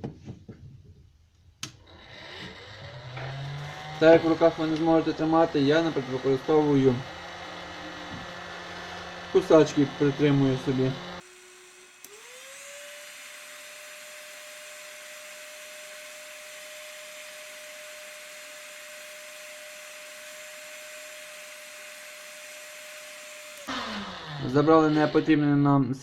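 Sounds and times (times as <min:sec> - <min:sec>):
hot-air soldering gun fan whine: 0:01.8 - 0:25.4.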